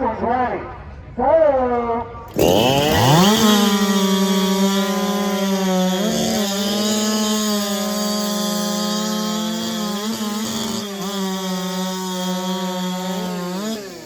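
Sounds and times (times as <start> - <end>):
chainsaw revving at full throttle: 2.3 - 14.0.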